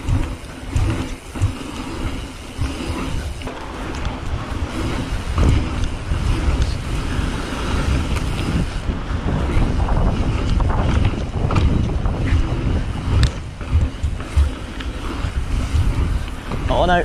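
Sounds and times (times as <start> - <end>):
bike clicks and rattles: 0.0 - 17.0
tyre rumble: 0.0 - 17.0
wind buffeting microphone: 0.0 - 17.0.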